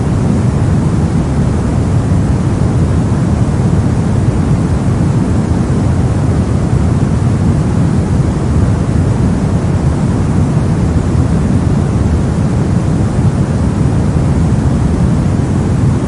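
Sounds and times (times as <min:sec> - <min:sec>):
white noise hiss: 0:00.0 - 0:16.0.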